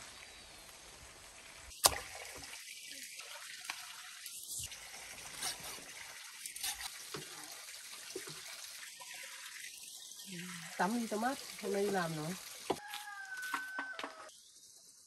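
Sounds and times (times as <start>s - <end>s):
water trickling and splashing: 0.6s - 13.8s.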